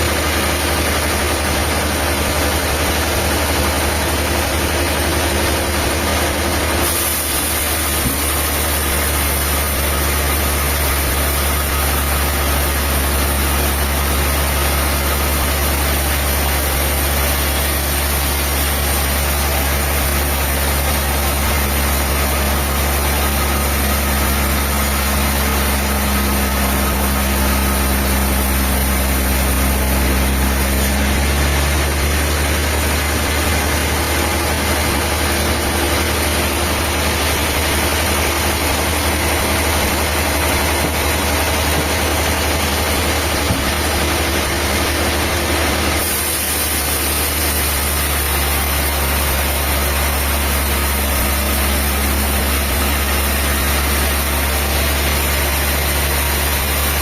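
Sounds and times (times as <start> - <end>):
diesel engine humming: 0.0 - 57.0.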